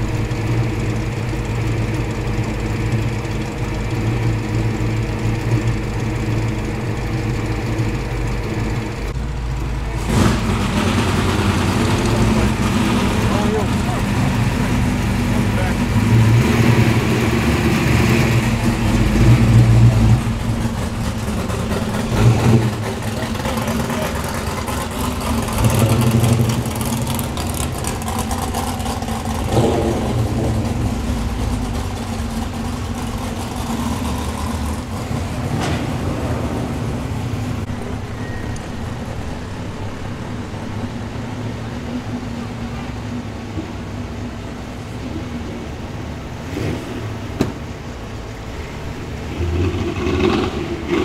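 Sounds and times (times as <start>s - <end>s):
cars driving slowly past: 0.0s - 51.0s.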